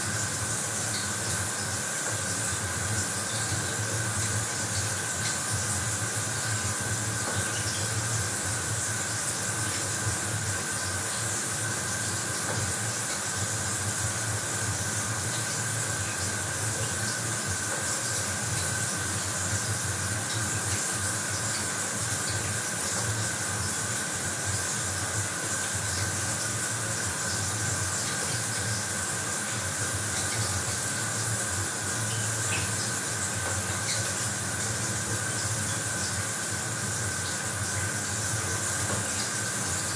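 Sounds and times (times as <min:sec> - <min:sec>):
shower water spraying: 0:00.0 - 0:39.9.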